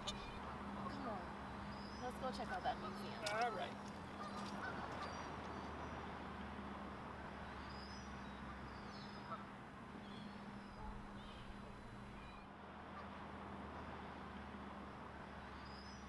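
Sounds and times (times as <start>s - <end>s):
distant bird chirps: 0.0s - 6.5s, 7.4s - 14.2s.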